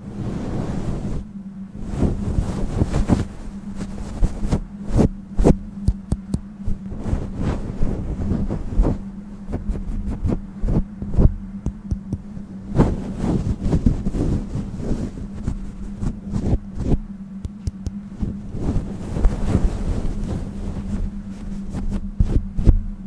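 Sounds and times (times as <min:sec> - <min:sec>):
handling crackles and rustles: 0:00.0 - 0:22.8
low hum: 0:00.0 - 0:23.0
wind buffeting microphone: 0:00.0 - 0:23.0.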